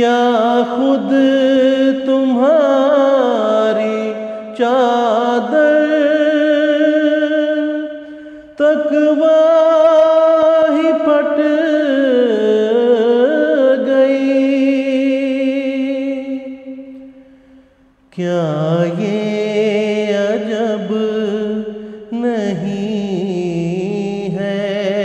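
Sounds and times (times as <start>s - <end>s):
wordless sustained singing with vibrato: 0.0s - 25.0s.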